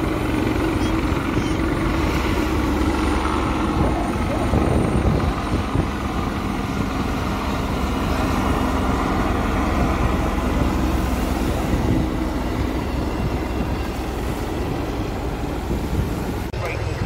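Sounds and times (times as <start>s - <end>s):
helicopters flying: 0.0s - 17.0s.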